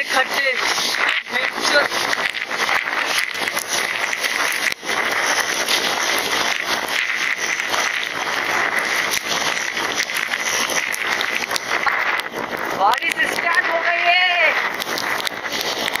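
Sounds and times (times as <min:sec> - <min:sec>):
rain and rushing air: 0:00.0 - 0:16.0
tyres spraying through water: 0:00.0 - 0:16.0.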